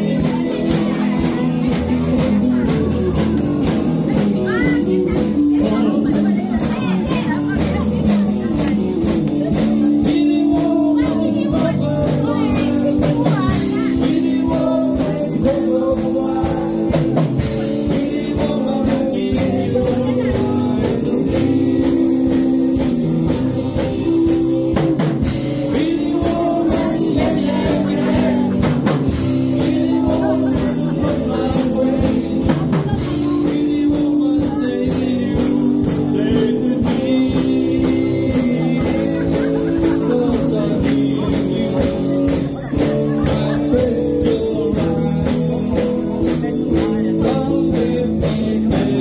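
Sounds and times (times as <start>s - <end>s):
drum kit beat: 0.0s - 49.0s
guitar: 0.0s - 49.0s
person singing: 0.0s - 49.0s.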